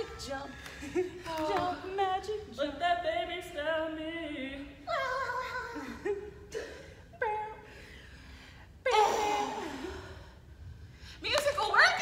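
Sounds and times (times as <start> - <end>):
women's wordless vocal sounds: 0.0 - 12.0.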